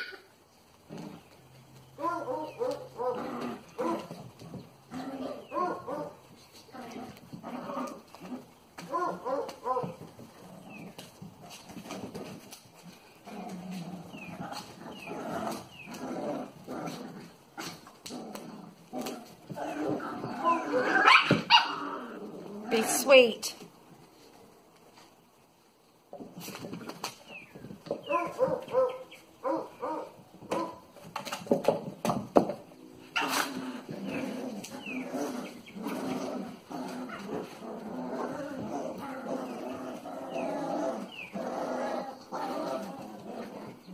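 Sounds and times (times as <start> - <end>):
puppies scuffling: 0.0 - 43.9
rustling: 0.2 - 43.9.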